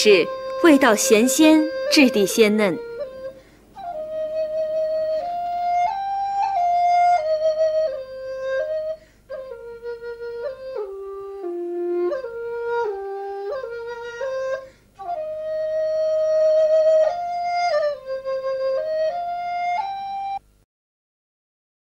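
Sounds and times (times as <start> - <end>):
solo flute melody: 0.0 - 20.4.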